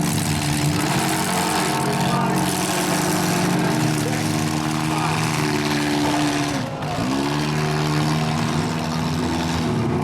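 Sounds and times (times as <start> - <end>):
car engines running loudly: 0.0 - 10.0
engine revving: 0.0 - 10.0.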